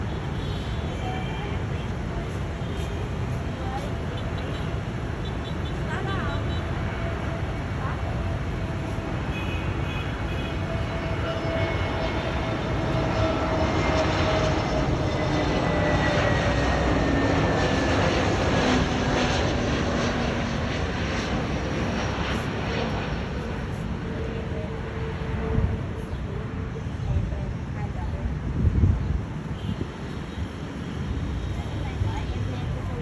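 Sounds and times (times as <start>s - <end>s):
jet airplane passing: 0.0s - 33.0s.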